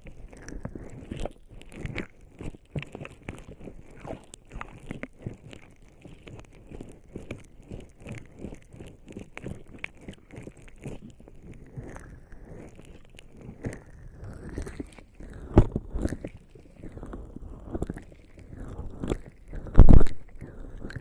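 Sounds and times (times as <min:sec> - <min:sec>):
wet skin rubbing on microphone: 0:00.0 - 0:21.0.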